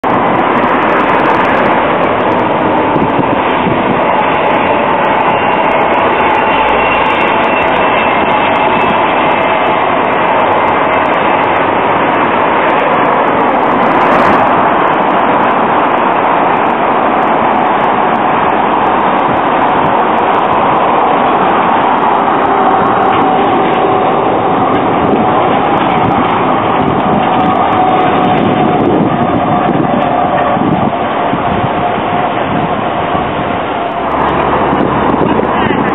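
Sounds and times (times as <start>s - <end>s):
road traffic: 0.0s - 35.9s
tram wheels on track: 0.0s - 35.9s.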